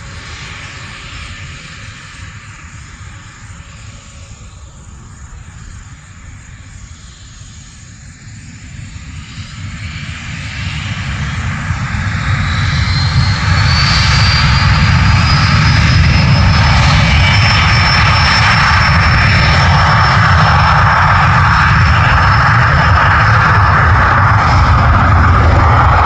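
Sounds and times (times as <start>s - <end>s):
jet engines low rumble: 0.0s - 26.0s
turbine whine: 0.0s - 26.0s.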